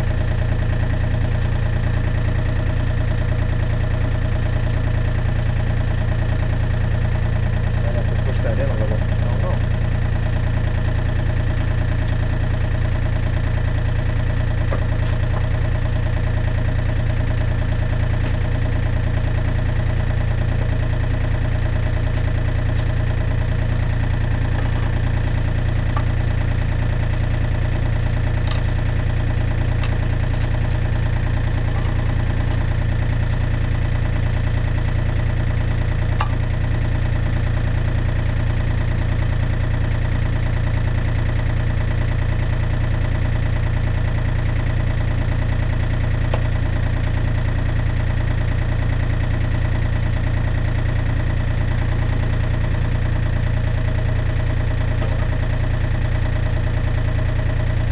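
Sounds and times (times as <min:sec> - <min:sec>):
excavator diesel engine idling: 0:00.0 - 0:57.9.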